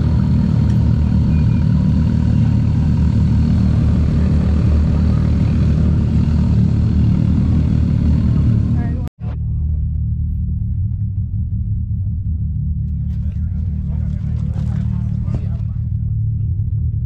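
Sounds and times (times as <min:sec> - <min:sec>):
vehicle engine low rumble: 0:00.0 - 0:17.0.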